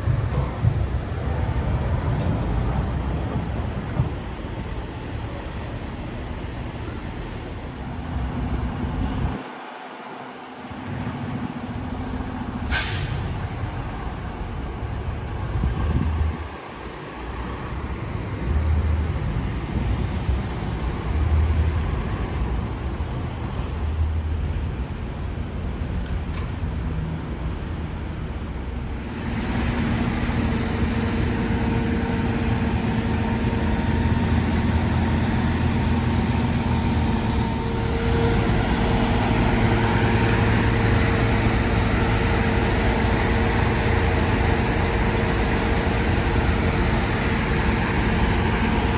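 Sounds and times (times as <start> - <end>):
heavy engine humming: 0.0 - 26.2, 27.8 - 48.9.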